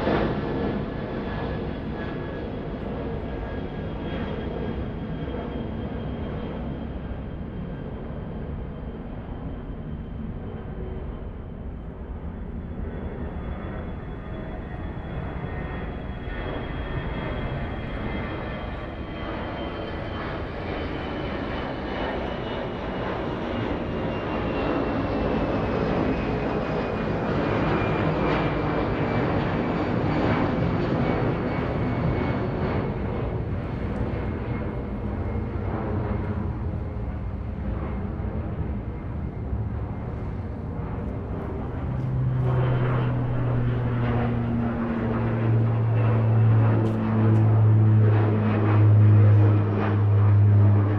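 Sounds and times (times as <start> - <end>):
airplane engine passing overhead: 0.0 - 50.9.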